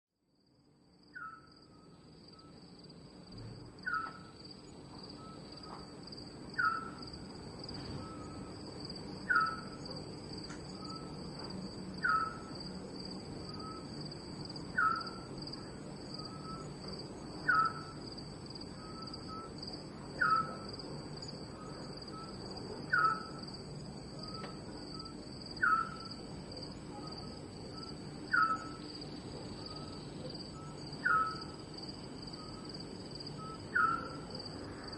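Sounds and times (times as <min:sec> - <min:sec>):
high insect chorus: 0:00.4 - 0:34.9.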